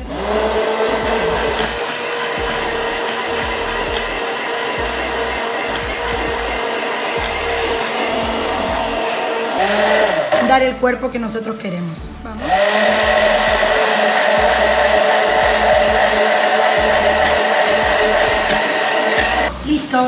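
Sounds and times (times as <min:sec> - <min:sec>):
immersion blender running: 0:00.0 - 0:10.8, 0:12.4 - 0:19.6.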